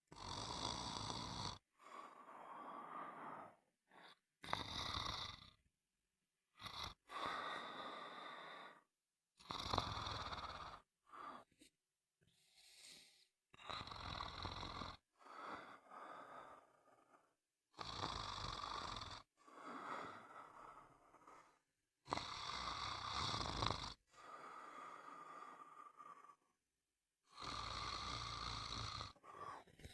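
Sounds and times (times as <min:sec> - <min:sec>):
person snoring: 0:00.1 - 0:05.6, 0:06.5 - 0:11.5, 0:12.6 - 0:26.6, 0:27.2 - 0:29.9.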